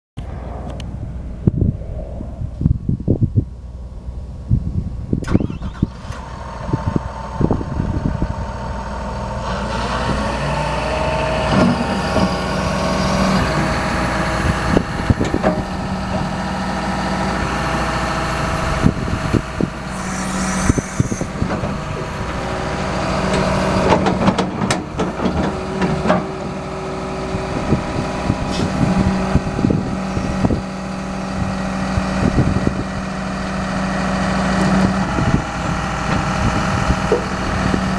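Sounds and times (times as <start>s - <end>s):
excavator diesel engine running: 5.2s - 37.9s.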